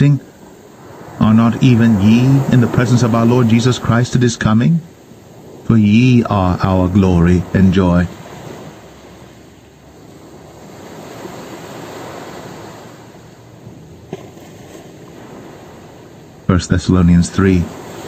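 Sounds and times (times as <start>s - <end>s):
ocean surf washing onto shore: 0.0s - 18.0s.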